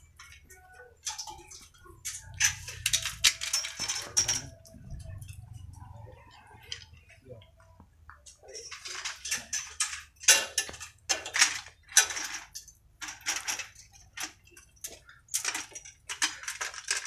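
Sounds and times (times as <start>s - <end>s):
metal tools clinking and rattling: 0.0s - 7.1s, 8.3s - 17.0s.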